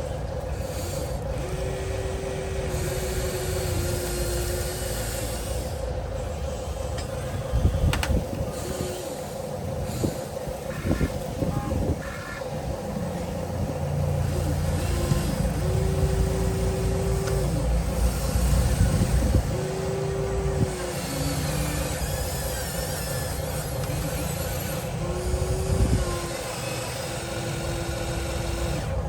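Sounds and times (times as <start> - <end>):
electric motor whine: 0.0 - 29.0
mechanical hum and low rumble: 0.0 - 29.0.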